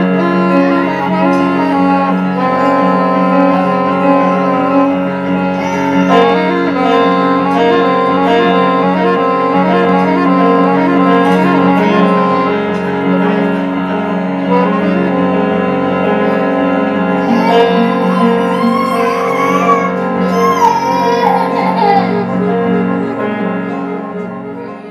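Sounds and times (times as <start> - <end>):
instrumental music with layered tones: 0.0 - 24.9
sliding melody line: 0.0 - 24.9.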